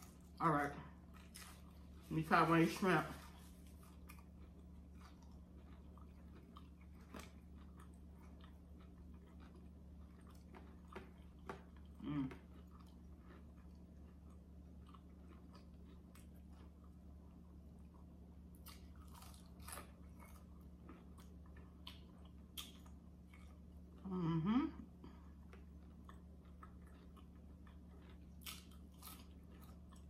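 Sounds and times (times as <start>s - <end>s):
faint chewing: 0.0s - 2.1s, 3.1s - 30.0s
low electrical hum: 0.0s - 30.0s.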